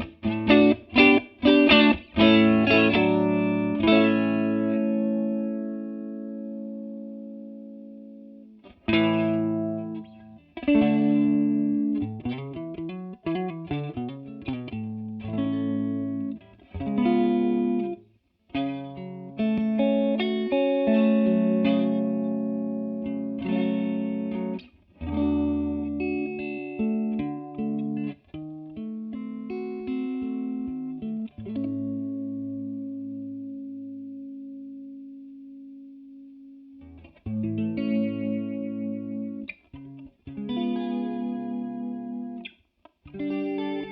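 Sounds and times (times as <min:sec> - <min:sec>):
electric guitar with chorus: 0:00.0 - 0:43.9.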